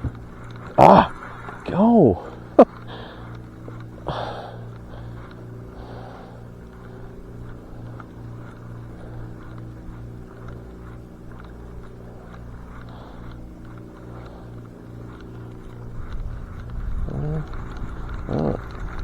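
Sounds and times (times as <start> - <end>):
throbbing engine drone: 0.0 - 19.0.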